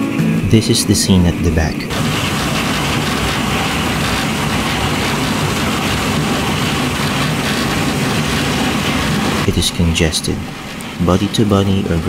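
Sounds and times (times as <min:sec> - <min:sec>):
train rumbling on track: 0:00.4 - 0:12.0.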